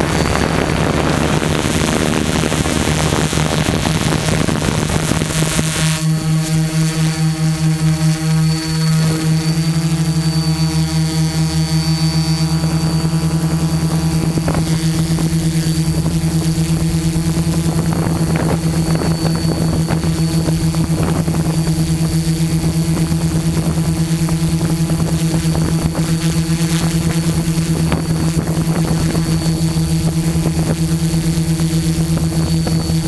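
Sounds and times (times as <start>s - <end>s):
drone motors humming and whining: 0.0s - 33.0s.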